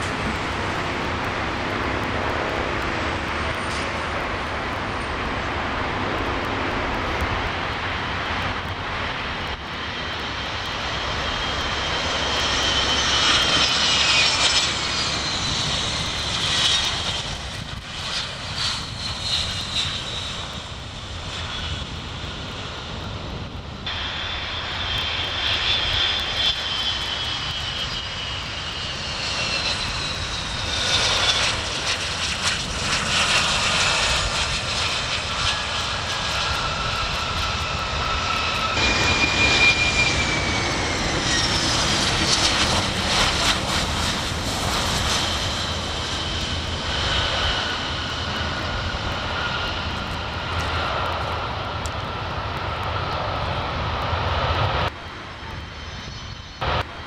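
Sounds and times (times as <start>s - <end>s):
jet airliners passing low: 0.0s - 57.0s
jet engine whine falling in pitch: 0.0s - 57.0s.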